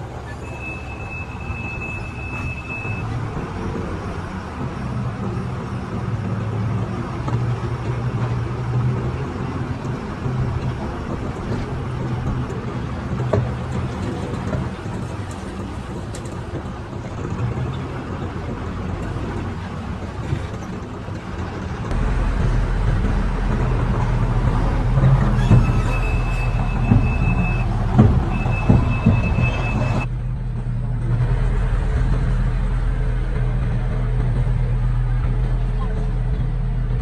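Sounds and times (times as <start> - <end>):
diesel engine running: 0.0 - 30.1
metallic clanks: 0.2 - 30.1.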